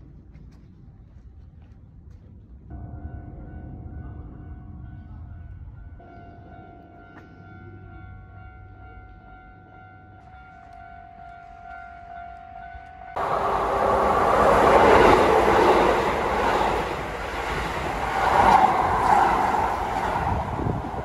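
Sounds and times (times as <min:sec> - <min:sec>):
train passing on track: 0:02.9 - 0:21.0.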